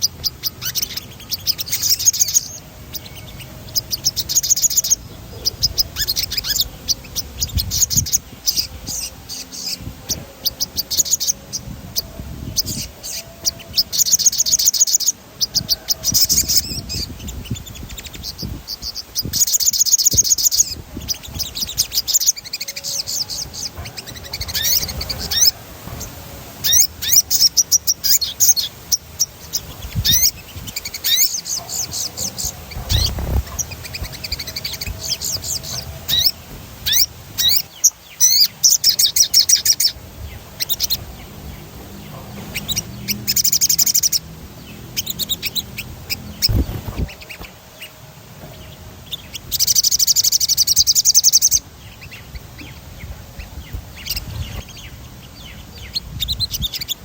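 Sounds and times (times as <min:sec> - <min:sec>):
songbird singing rolling trills: 0:00.0 - 0:57.0.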